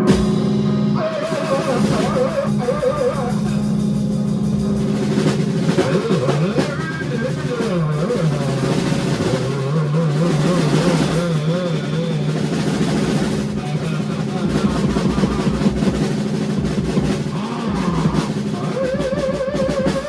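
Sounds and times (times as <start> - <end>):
bass guitar: 0.0 - 20.0
drum kit: 0.0 - 20.0.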